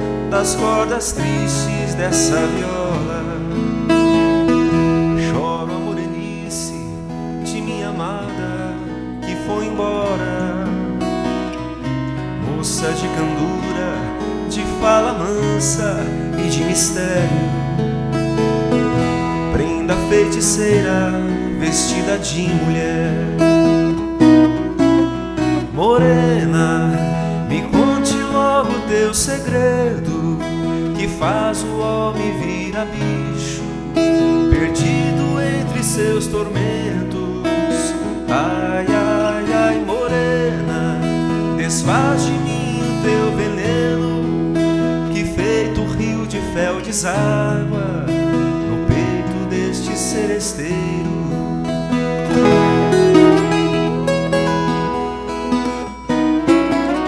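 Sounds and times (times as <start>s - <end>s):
guitar strums: 0.0s - 57.0s
plucked folk guitar melody: 0.0s - 57.0s.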